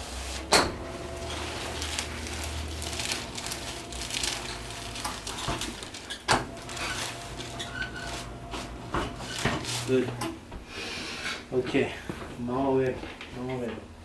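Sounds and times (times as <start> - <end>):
rustling and shuffling: 0.0 - 10.7, 11.6 - 13.9.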